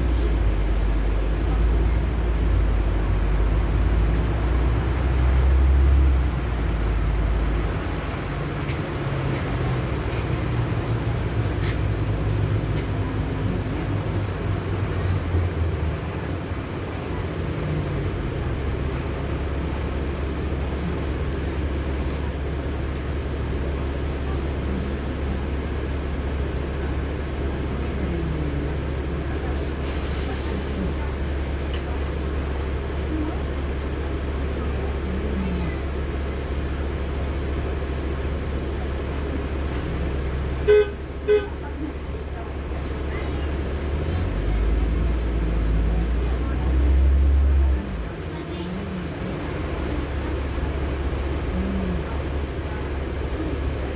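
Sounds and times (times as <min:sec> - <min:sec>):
bus engine drone: 0:00.0 - 0:53.9.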